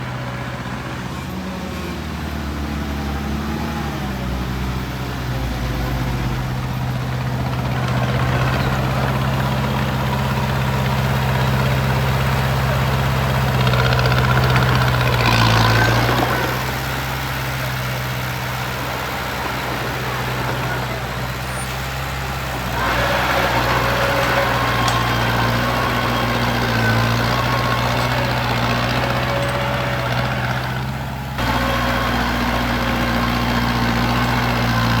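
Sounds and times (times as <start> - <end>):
construction machine engine running: 0.0 - 35.0.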